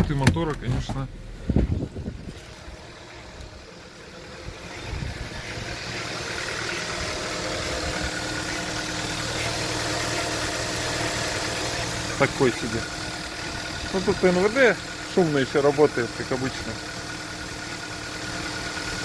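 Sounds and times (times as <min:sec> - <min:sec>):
car engine idling: 0:00.0 - 0:19.0
noisy fuel pump: 0:00.0 - 0:19.0.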